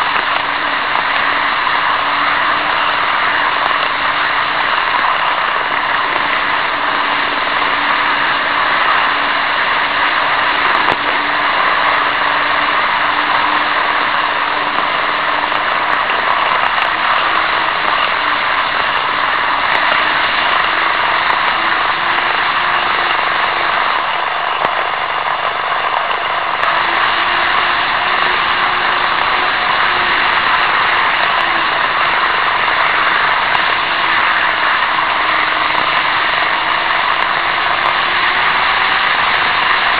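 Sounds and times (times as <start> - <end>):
model train wheels rattling: 0.0 - 39.9
motor hum: 0.0 - 39.9.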